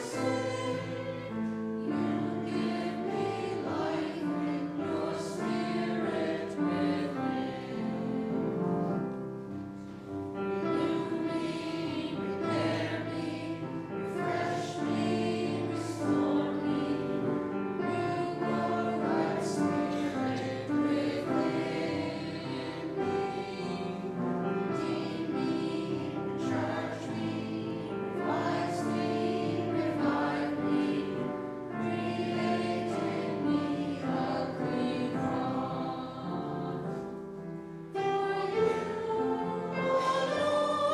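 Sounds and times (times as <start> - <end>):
group singing sacred song: 0.0 - 9.2, 10.3 - 40.9.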